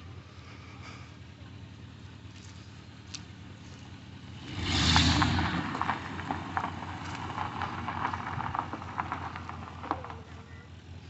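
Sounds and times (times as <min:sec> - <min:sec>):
engine crackles and pops: 0:00.0 - 0:11.0
truck engine surging: 0:00.0 - 0:11.0.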